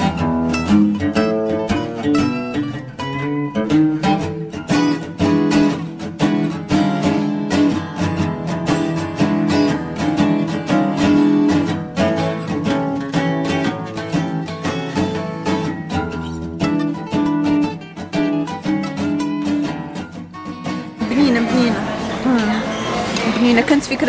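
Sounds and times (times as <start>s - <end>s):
acoustic guitar playing lively tune: 0.0s - 24.0s.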